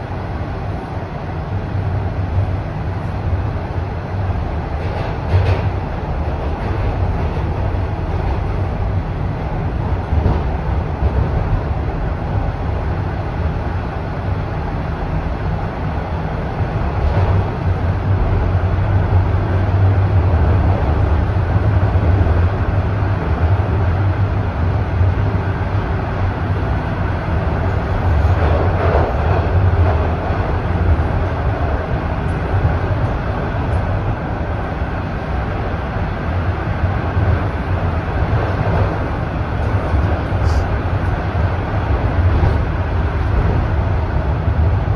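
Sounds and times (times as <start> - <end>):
train wheels and motors rumbling: 0.0 - 44.9.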